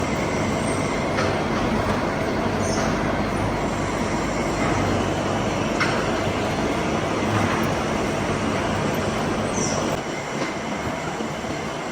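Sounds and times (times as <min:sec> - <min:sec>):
heavy machinery humming: 0:00.0 - 0:11.9.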